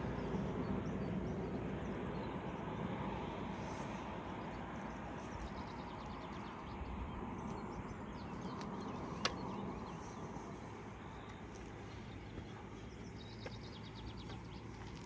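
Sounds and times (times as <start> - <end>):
low outdoor noise: 0.0 - 15.0.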